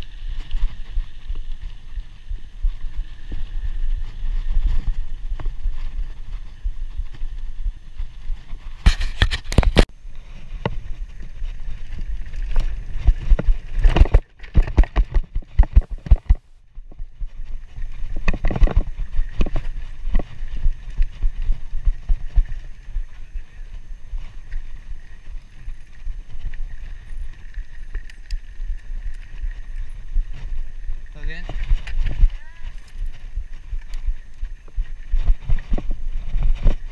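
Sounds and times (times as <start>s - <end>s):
bike rattling over bumps: 0.0s - 36.9s
bike tyre rumble on dirt: 0.0s - 36.9s
wind on microphone: 0.0s - 36.9s.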